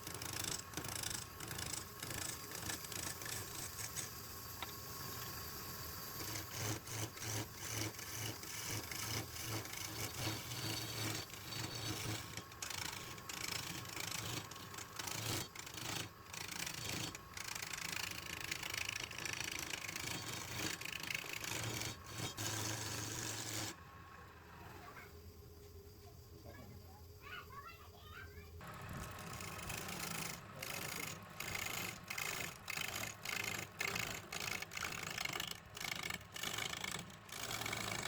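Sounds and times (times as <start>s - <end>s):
tool rasping on spinning wood: 0.0s - 4.3s, 5.0s - 23.8s, 28.9s - 38.0s.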